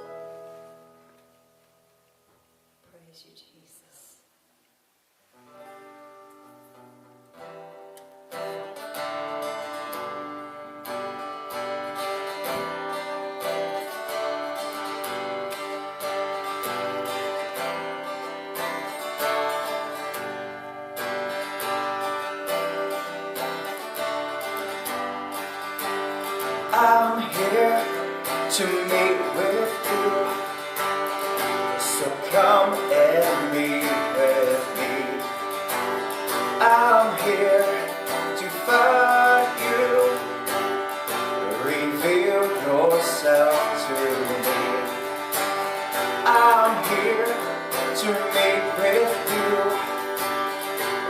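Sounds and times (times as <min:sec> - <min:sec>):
acoustic guitar strumming chords: 0:00.0 - 0:02.7, 0:05.4 - 0:51.0.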